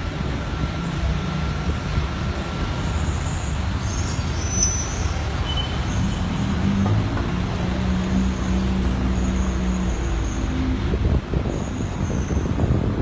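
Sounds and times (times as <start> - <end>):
car engine and road noise: 0.0 - 13.0
nearby traffic: 0.0 - 13.0.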